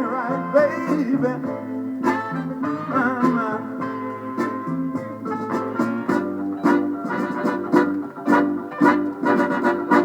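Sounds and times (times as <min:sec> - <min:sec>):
guitar: 0:00.0 - 0:10.0
soul band playing: 0:00.0 - 0:10.0.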